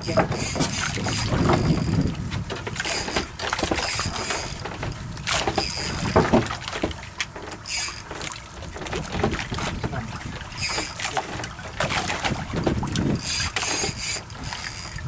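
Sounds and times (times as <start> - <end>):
wind on microphone: 0.0 - 6.5, 8.7 - 15.0
water slapping against boat: 0.0 - 15.0.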